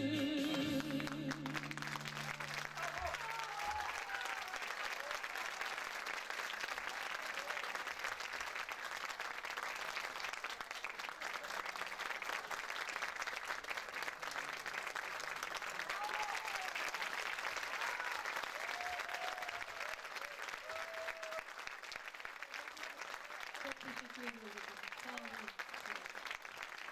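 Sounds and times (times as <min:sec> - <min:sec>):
audience applauding: 0:00.3 - 0:26.9.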